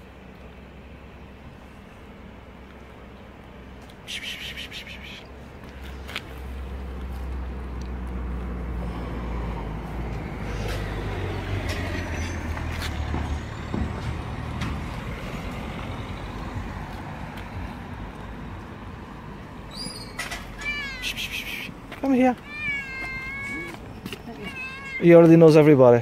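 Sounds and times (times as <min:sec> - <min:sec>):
heavy vehicle engine rumbling: 0:00.0 - 0:25.0.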